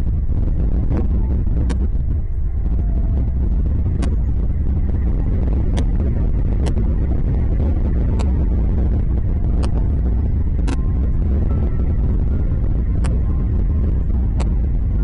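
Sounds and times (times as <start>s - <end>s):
steady low rumble: 0.0s - 15.0s
sharp high ticks: 0.1s - 14.8s.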